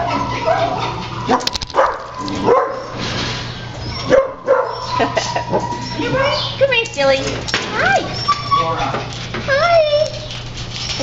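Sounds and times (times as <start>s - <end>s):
dogs barking: 0.0s - 6.8s, 7.7s - 9.8s.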